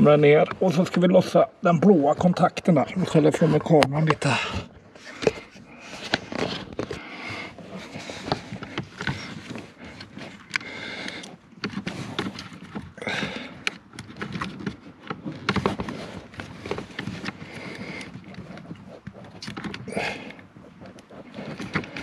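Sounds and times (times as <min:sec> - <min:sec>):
camera handling rustle: 0:03.2 - 0:22.0.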